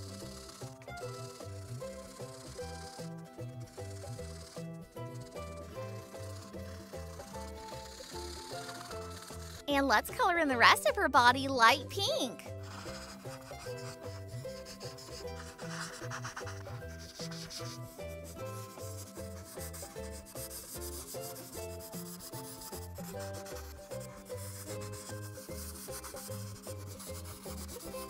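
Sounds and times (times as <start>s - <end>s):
marker scratching on paper: 0.0s - 9.6s, 12.5s - 28.0s
background music: 0.0s - 28.0s.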